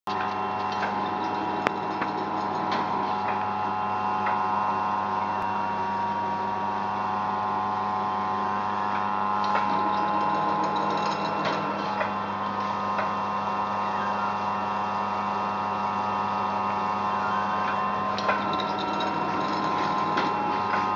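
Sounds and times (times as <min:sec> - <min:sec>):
metal planer humming: 0:00.1 - 0:20.9.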